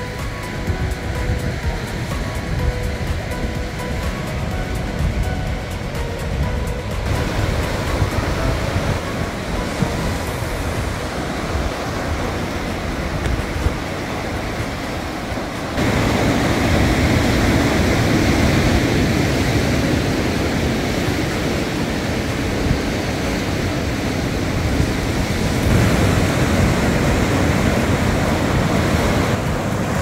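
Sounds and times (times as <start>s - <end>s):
sea surf breaking over rocks: 0.0s - 30.0s.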